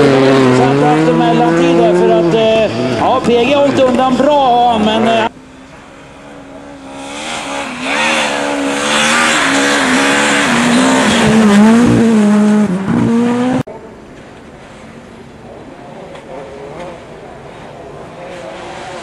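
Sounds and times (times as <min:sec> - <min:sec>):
rally car engine passing: 0:00.0 - 0:13.8, 0:14.7 - 0:19.0
distant rally car engine: 0:00.0 - 0:19.0.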